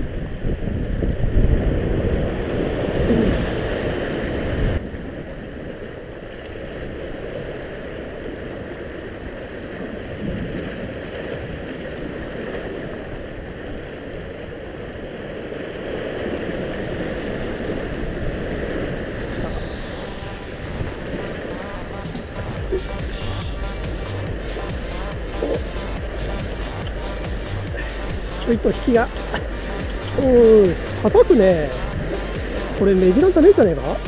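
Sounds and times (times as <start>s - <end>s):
surf washing over rocks: 0.0s - 34.0s
wind buffeting microphone: 0.0s - 34.0s.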